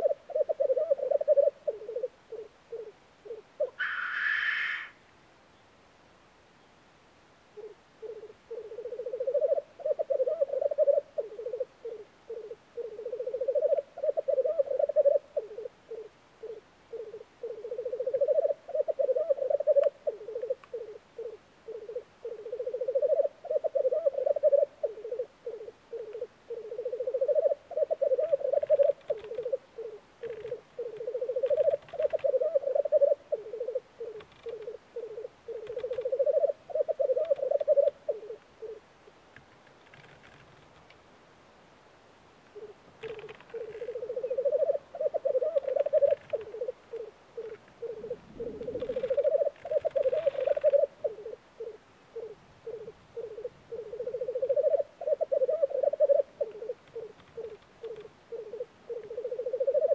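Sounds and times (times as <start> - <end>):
black grouse bubbling coos: 0.0 - 5.0, 7.5 - 39.2, 42.5 - 59.9.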